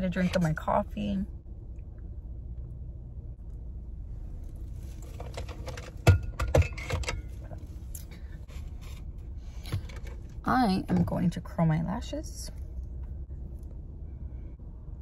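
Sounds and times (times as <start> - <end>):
low hum inside car: 0.0 - 15.0.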